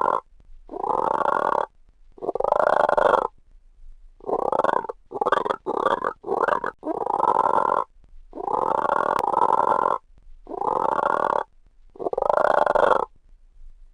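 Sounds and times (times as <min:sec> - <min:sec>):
frog croaking: 0:00.0 - 0:03.4, 0:04.2 - 0:13.1.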